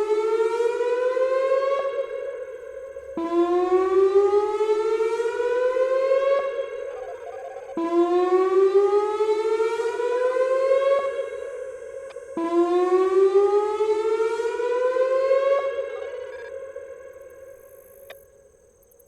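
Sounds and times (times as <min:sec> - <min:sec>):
electronic siren whooping: 0:00.0 - 0:18.2.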